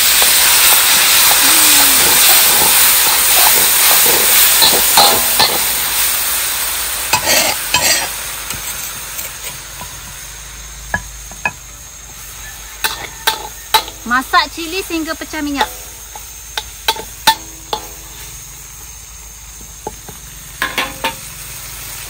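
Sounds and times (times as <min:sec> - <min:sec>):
paste sizzling in hot oil: 0:00.0 - 0:22.0
metal spatula scraping a wok: 0:00.1 - 0:06.4, 0:07.1 - 0:10.2, 0:11.0 - 0:19.0, 0:19.8 - 0:21.8.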